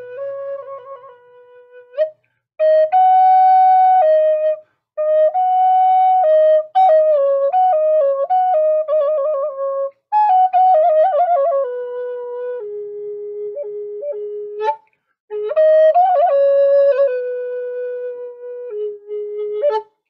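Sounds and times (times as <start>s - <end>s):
wooden flute slow melody: 0.0s - 20.0s.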